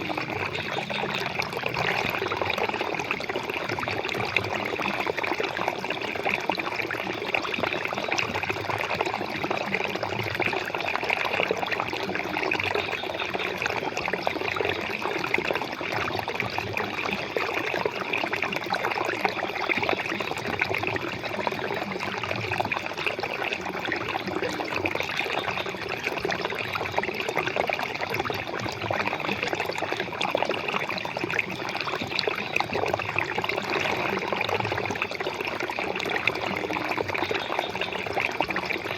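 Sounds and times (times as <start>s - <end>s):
water flowing and trickling: 0.0s - 38.9s.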